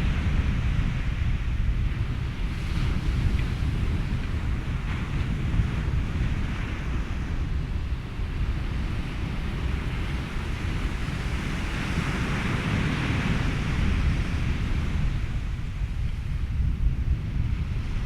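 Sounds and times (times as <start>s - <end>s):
ocean surf: 0.0s - 18.0s
wind: 0.0s - 18.0s.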